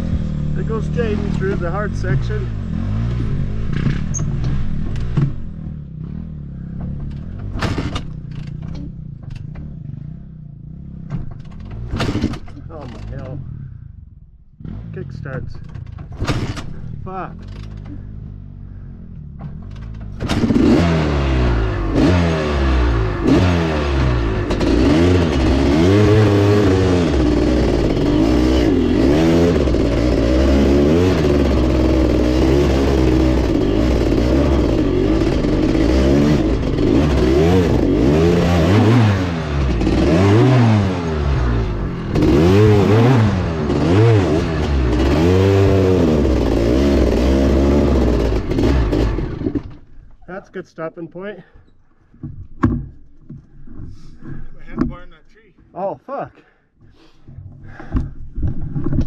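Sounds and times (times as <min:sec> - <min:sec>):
motorcycle engine revving: 0:00.0 - 0:50.2.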